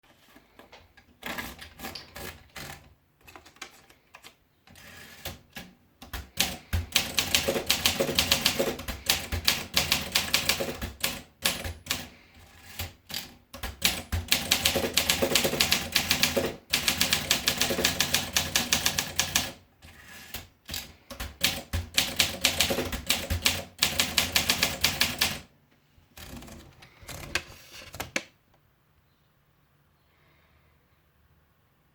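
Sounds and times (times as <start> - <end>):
manual typewriter typing: 1.2 - 25.5, 26.2 - 28.3.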